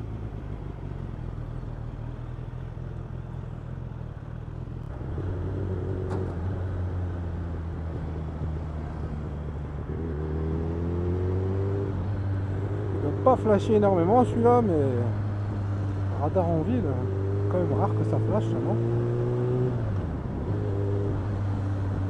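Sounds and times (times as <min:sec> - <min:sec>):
motorcycle engine droning: 0:00.0 - 0:22.0.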